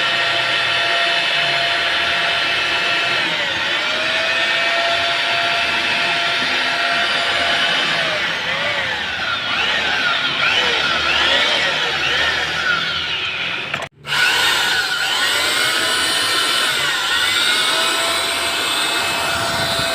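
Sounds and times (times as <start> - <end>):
electric sander motor whine: 0.0 - 19.9.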